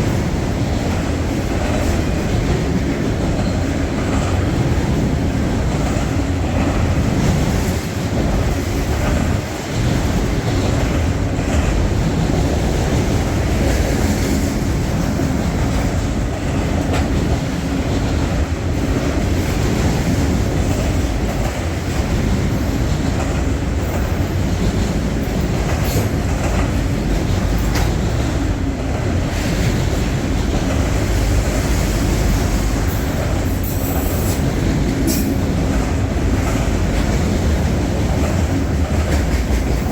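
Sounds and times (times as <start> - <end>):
train rumble: 0.0 - 39.9
train wheels clacking: 0.0 - 39.9.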